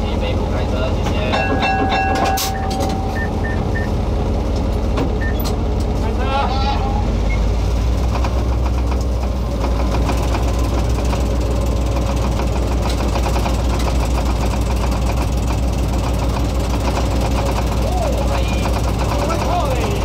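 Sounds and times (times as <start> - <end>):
locomotive engine running: 0.0 - 20.0.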